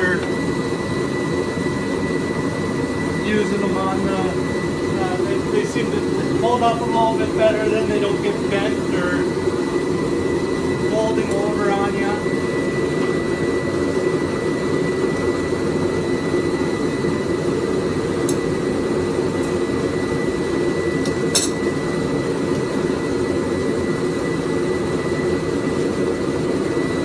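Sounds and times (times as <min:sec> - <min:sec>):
forge rushing with high whine: 0:00.0 - 0:27.0.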